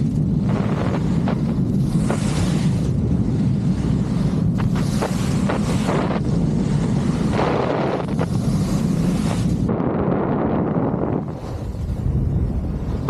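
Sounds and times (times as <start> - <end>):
snowboard carving across snow: 0.0 - 13.0
wind buffeting microphone: 0.0 - 13.0.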